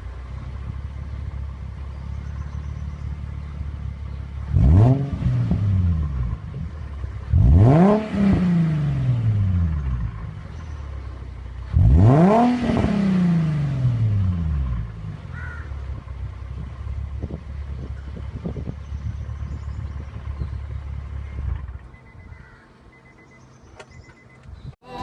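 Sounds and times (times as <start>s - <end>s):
car engine revving and idling: 0.0s - 23.7s.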